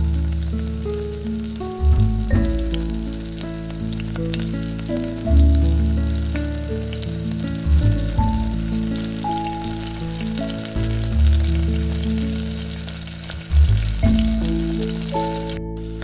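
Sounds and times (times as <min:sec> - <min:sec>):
background music with deep bass: 0:00.0 - 0:16.0.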